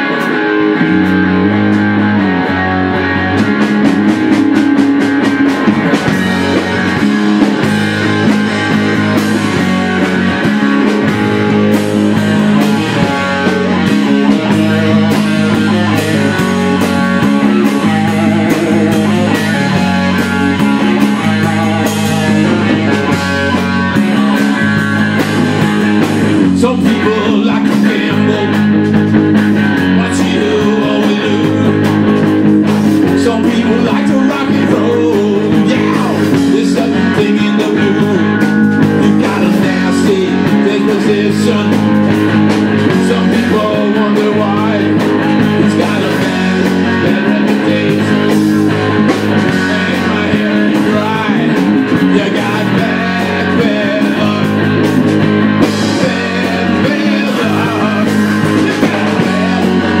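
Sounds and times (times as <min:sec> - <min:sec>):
bass guitar: 0:00.0 - 1:00.0
drum kit: 0:00.0 - 1:00.0
electric guitar: 0:00.0 - 1:00.0.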